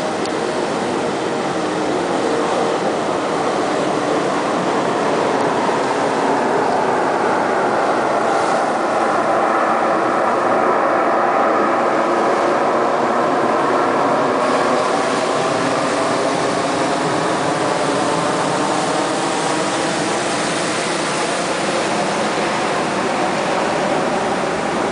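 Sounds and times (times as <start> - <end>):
ocean surf roaring: 0.0 - 24.9.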